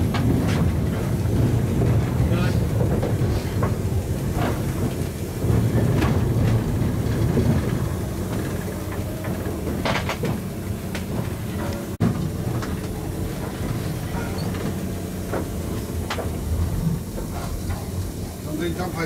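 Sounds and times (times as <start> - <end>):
locomotive rumble: 0.0 - 19.0.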